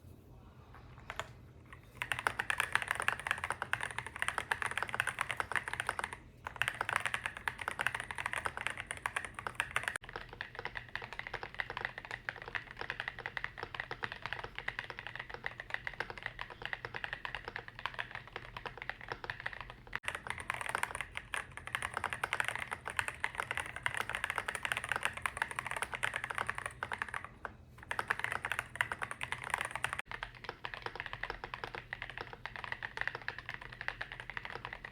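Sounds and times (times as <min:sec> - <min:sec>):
mechanical keyboard typing: 0:01.0 - 0:34.9.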